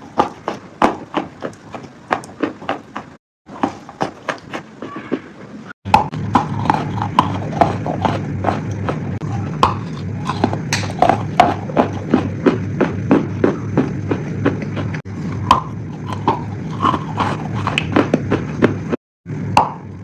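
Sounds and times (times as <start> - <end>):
crunchy food being chewed: 0.0 - 19.0
steady low hum: 0.0 - 20.0.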